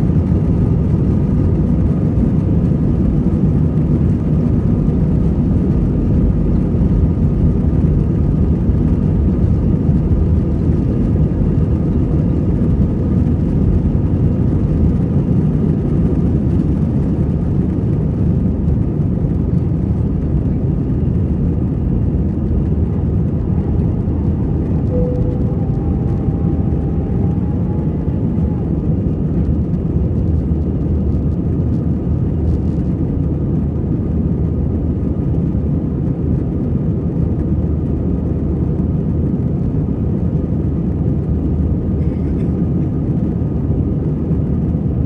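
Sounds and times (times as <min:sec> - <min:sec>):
jet engine noise and airflow: 0:00.0 - 0:45.0.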